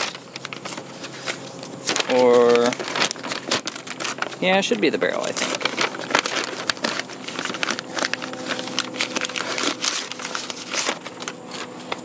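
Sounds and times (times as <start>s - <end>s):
packing paper crinkling: 0.0s - 12.0s.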